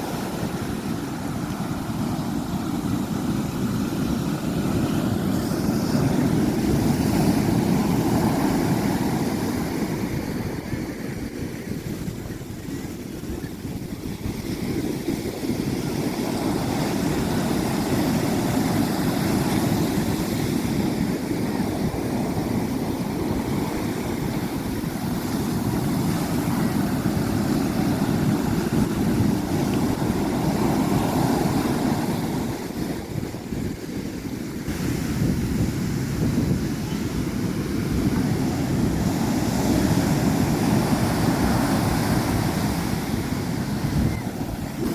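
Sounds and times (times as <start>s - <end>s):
sea waves washing in: 0.0s - 44.9s
wind rumbling on microphone: 0.0s - 44.9s.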